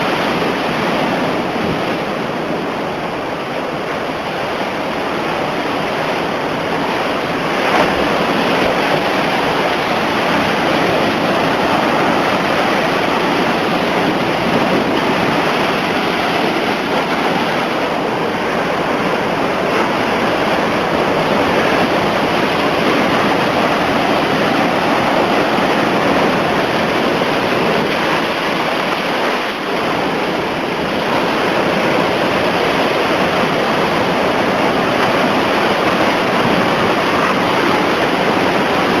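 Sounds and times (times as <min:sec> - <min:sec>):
heavy surf crashing waves: 0:00.0 - 0:39.0.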